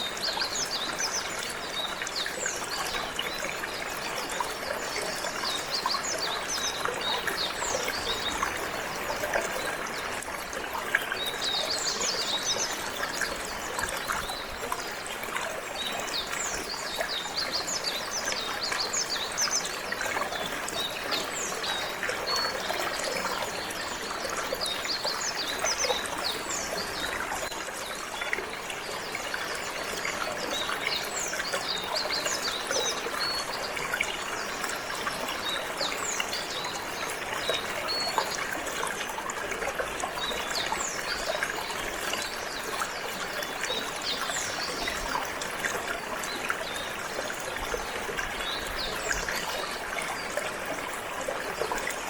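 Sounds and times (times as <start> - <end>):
water trickling: 0.0 - 52.0.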